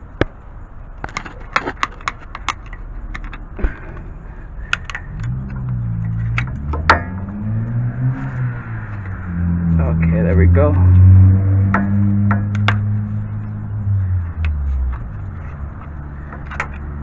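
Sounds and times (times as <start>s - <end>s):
low vehicle engine drone: 0.0s - 17.0s.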